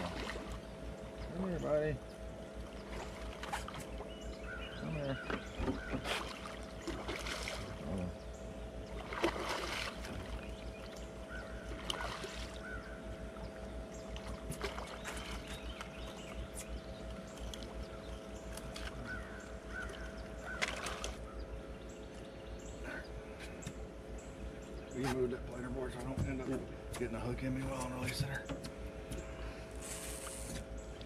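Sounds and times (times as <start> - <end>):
boat motor running: 0.0 - 31.0.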